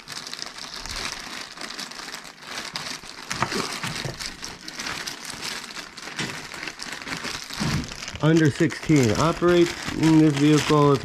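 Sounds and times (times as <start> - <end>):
plastic and paper crinkling: 0.0 - 11.0.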